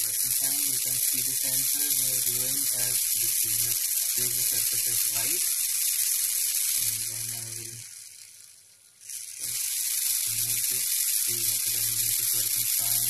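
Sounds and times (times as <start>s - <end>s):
small motors humming: 0.0s - 13.0s
steady high hiss: 0.0s - 13.0s.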